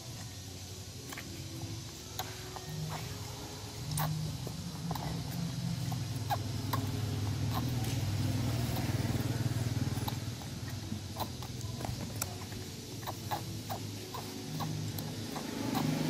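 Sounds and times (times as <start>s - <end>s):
baby monkeys sucking bottles: 0.0s - 16.0s
vehicle engine hum: 0.9s - 16.0s.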